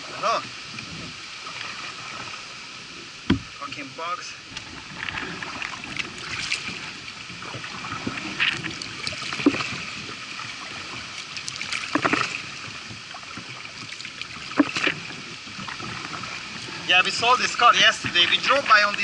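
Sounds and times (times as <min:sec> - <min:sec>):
paddle splashing: 0:00.0 - 0:19.0
water sloshing along hull: 0:00.0 - 0:19.0.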